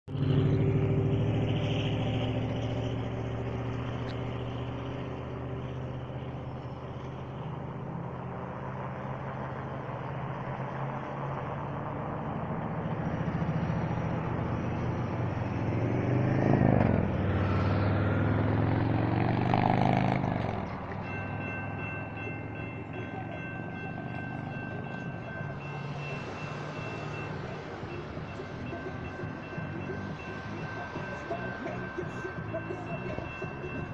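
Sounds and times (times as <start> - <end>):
diesel locomotive engine: 0.1 - 33.9
train rumbling on rails: 0.1 - 33.9.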